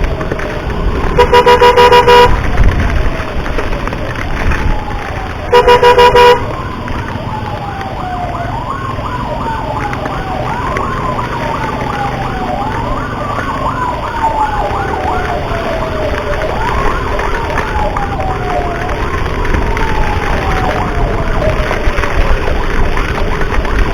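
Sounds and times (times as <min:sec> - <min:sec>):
wailing ambulance siren: 0:00.0 - 0:23.9
fast warbling siren: 0:00.3 - 0:23.9.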